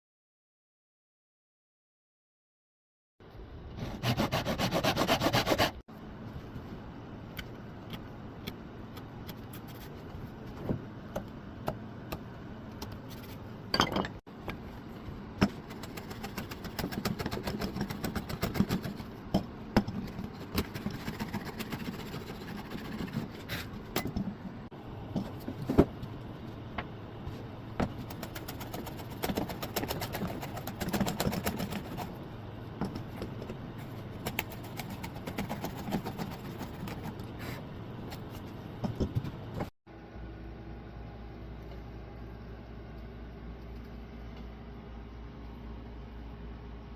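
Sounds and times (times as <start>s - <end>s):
steady low hum: 3.2s - 46.9s.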